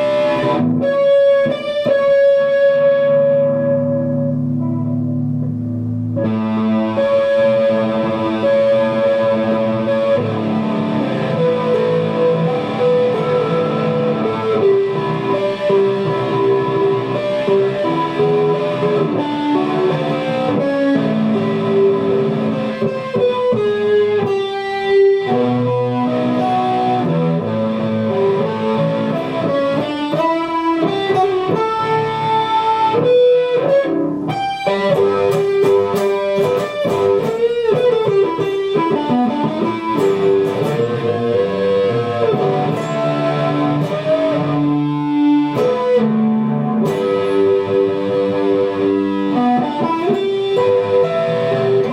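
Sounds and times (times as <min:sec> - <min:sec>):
electric guitar lead melody: 0:00.0 - 0:51.9.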